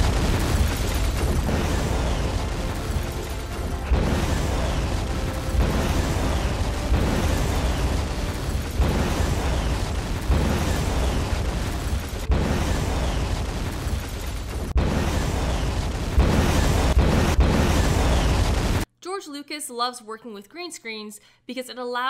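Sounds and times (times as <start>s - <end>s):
booming hits: 0.0s - 18.9s.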